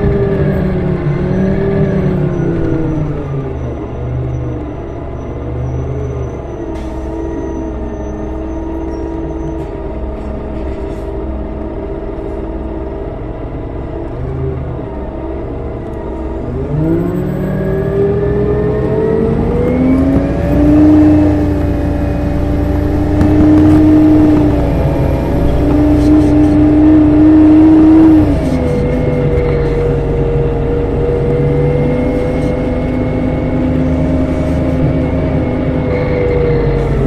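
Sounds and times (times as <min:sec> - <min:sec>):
bus engine idling and revving: 0:00.0 - 0:37.0.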